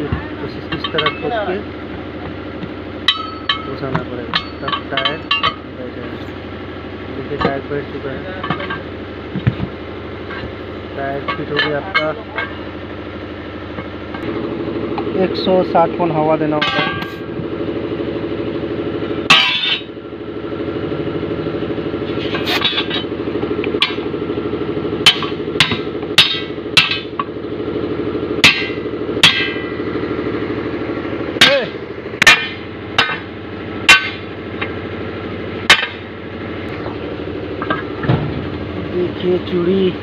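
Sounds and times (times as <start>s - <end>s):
air compressor running: 0.0s - 40.0s.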